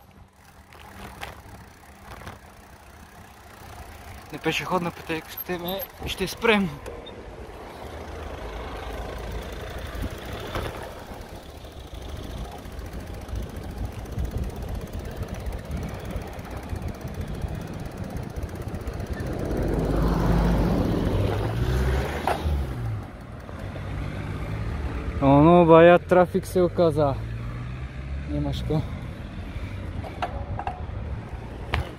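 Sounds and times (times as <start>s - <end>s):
bicycle road noise: 0.0s - 31.9s
passing motor vehicle engine: 0.0s - 31.9s.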